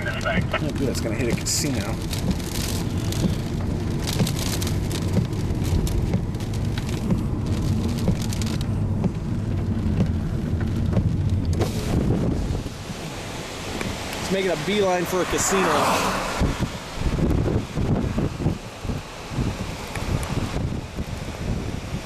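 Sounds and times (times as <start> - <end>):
rain ticking on vehicle: 0.0 - 15.5, 16.4 - 22.0
wind and vehicle rumble: 0.0 - 22.0.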